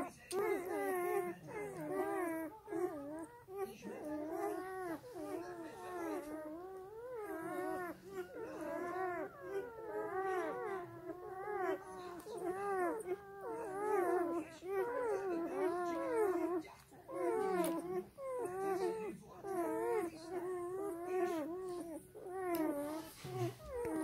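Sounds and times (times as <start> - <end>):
puppies whining and whimpering: 0.0 - 24.0.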